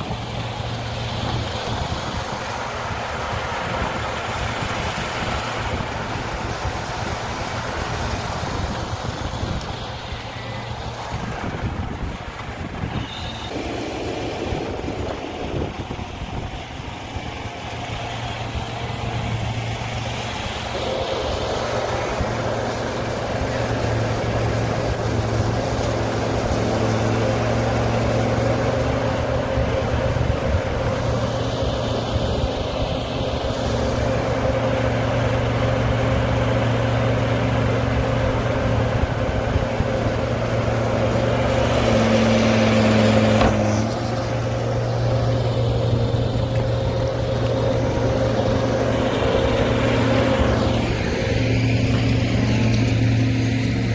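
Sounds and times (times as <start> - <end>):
farm vehicle engine running: 0.0 - 53.9.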